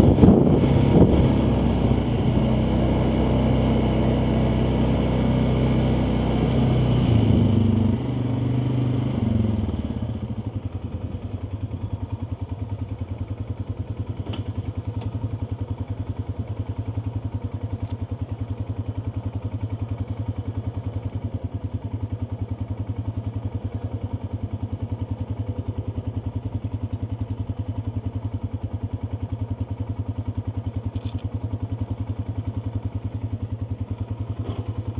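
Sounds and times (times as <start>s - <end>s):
atv engine revving and idling: 0.0s - 34.9s.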